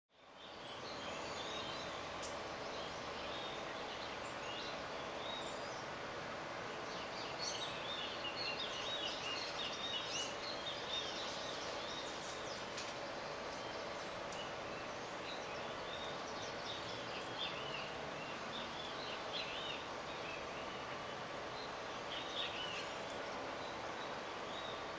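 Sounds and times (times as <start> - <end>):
small birds chirping: 0.1 - 24.9
steady background hiss: 0.1 - 24.9.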